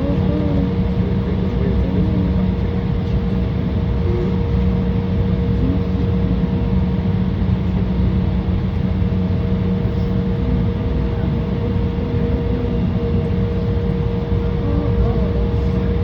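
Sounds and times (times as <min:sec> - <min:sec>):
jet engines heard from cabin: 0:00.0 - 0:16.0.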